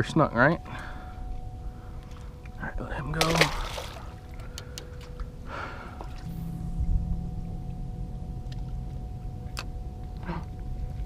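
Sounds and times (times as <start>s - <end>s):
faint steady hum: 0.0s - 11.0s
boat motor rumbling: 0.6s - 11.0s.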